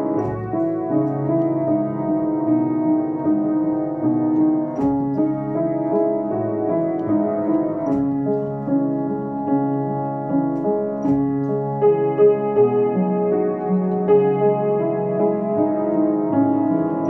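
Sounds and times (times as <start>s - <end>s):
solo piano folk-style piece: 0.0s - 17.0s.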